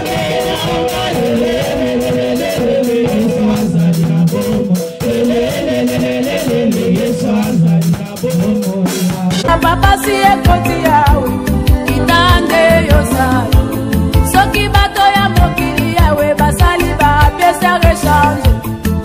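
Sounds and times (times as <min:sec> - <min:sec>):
song with singing over drum beat: 0:00.0 - 0:19.0.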